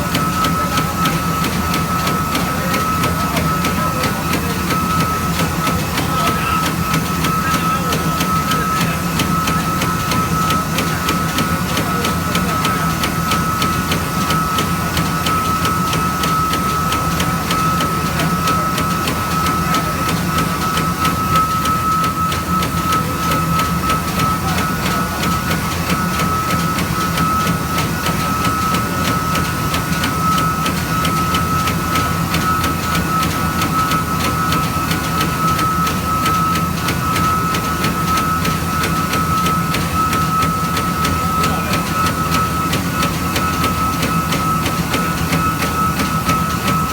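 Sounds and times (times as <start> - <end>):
machine high-pitched whine: 0.0 - 46.9.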